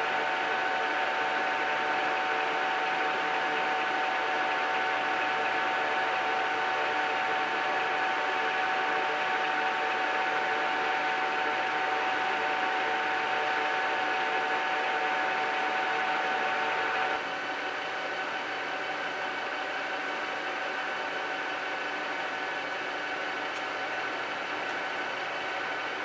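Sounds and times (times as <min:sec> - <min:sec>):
lathe humming: 0:00.0 - 0:26.0.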